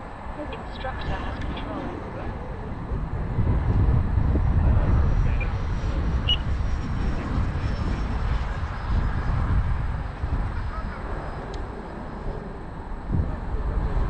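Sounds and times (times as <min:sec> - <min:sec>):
distant electric jet whine: 0:00.0 - 0:14.0
wind buffeting microphone: 0:00.0 - 0:14.0.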